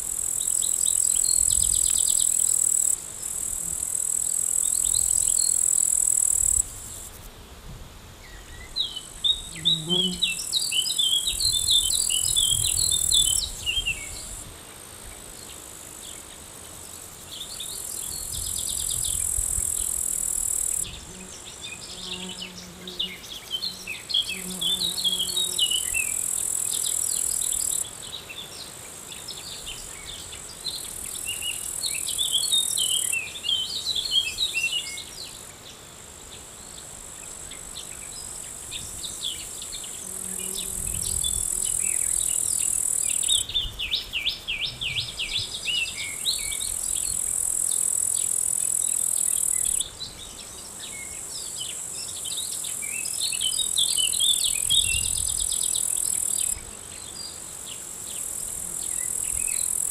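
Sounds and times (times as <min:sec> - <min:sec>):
insects trilling: 0:00.0 - 0:07.3, 0:08.7 - 0:59.9.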